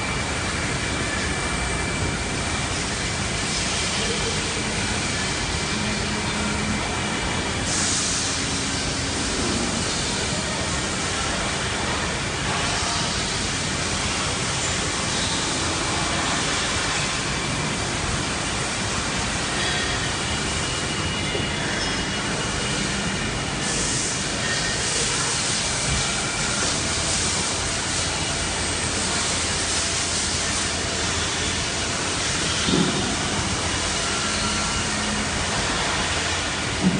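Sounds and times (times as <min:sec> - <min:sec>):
faint steady machine tones: 0:00.0 - 0:36.9
lathe machine hiss: 0:00.0 - 0:36.9.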